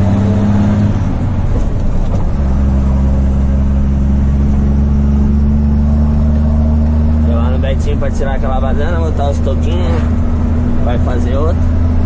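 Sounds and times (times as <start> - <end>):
diesel truck engine from inside cab: 0.0 - 12.0.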